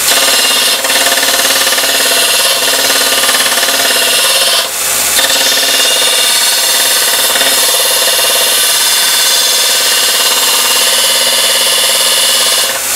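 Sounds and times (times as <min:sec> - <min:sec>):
electric grinder grinding steel: 0:00.0 - 0:12.9.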